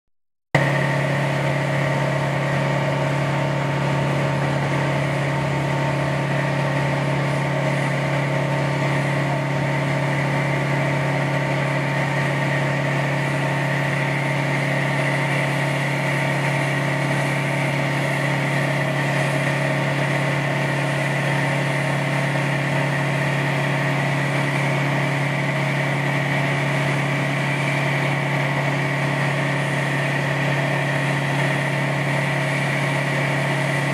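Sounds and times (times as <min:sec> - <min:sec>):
truck engine drone: 0:00.6 - 0:33.9.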